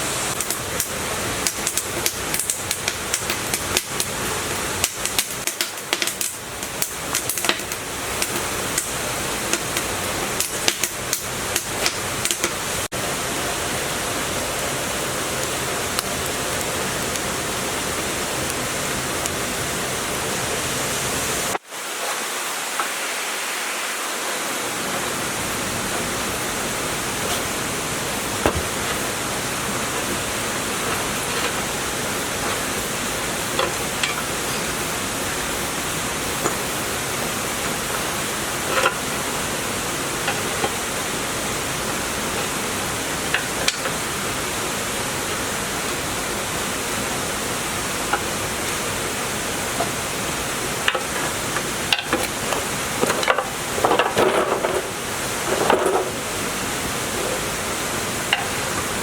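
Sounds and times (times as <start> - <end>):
steady rushing hiss: 0.0 - 59.0.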